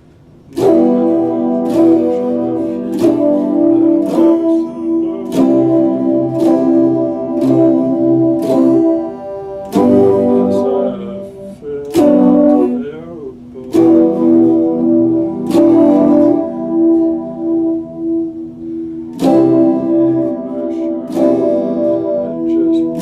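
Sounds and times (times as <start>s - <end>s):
bent wavering guitar note: 0.0s - 23.0s
electric guitar strummed chords: 0.0s - 23.0s.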